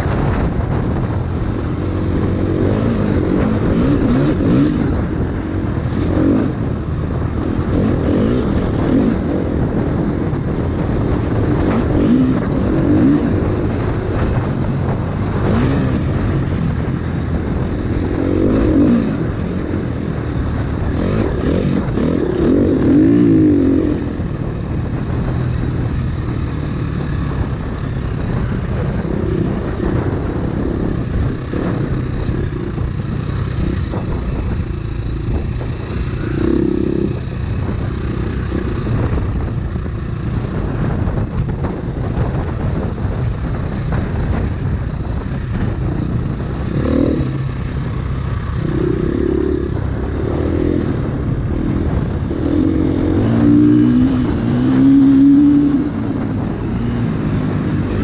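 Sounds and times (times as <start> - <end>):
dirt bike engine revving: 0.0 - 42.8, 43.8 - 58.0.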